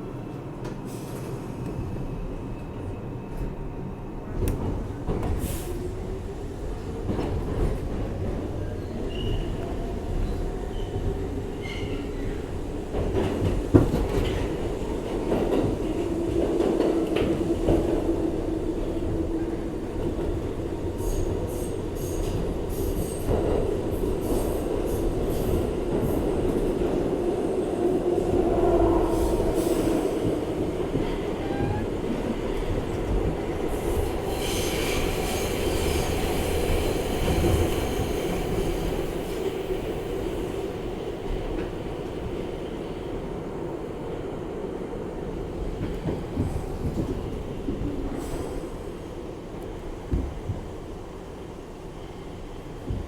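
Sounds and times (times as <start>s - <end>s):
subway wheels rumbling on track: 0.0s - 53.0s.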